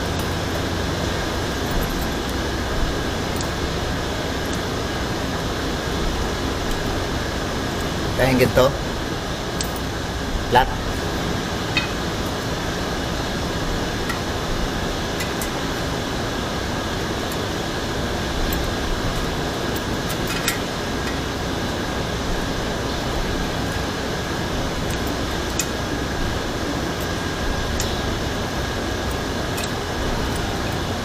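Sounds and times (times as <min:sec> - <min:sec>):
fan running hiss and hum: 0:00.0 - 0:31.0.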